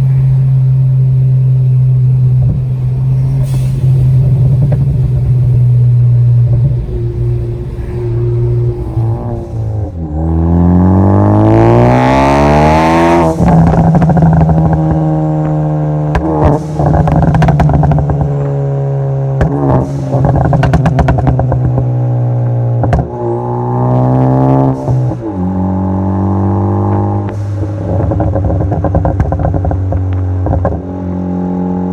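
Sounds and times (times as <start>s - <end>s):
exhaust crackles and pops: 0.0s - 12.1s, 12.7s - 25.3s, 26.8s - 31.2s
car engine revving: 0.0s - 31.9s.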